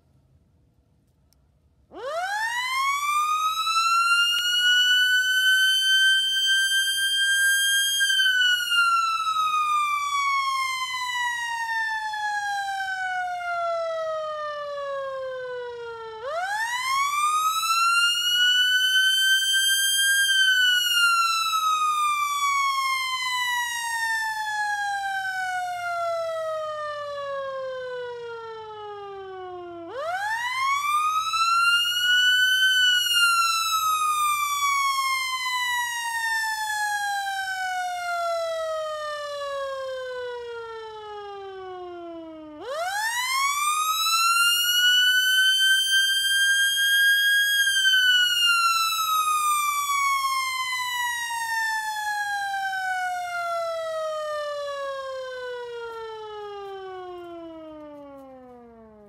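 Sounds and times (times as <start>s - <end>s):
warning siren wailing: 1.9s - 59.0s.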